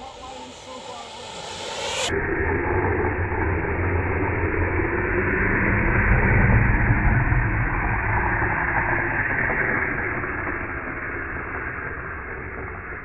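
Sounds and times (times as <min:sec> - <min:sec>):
longboard wheels rolling on asphalt: 0:00.0 - 0:13.0.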